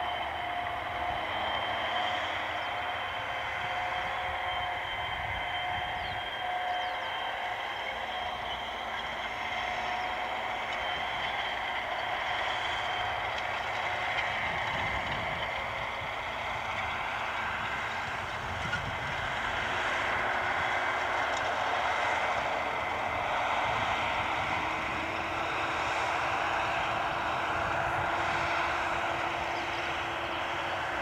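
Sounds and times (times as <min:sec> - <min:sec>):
tractor engine under load: 0:00.0 - 0:31.0
whining tones: 0:00.0 - 0:31.0.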